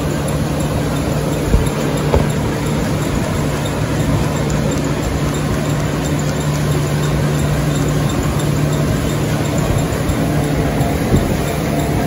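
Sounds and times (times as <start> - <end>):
treadmill motor and belt running: 0.0 - 12.0.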